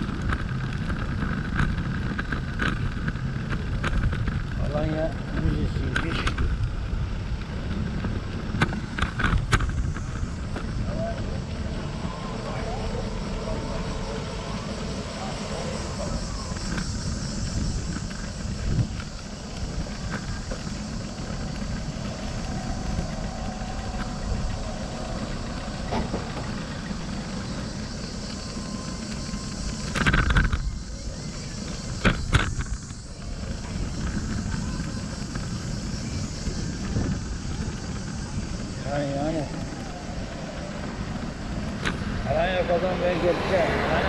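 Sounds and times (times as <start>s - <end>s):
cars passing: 0.0s - 44.0s
low traffic rumble: 0.0s - 44.0s.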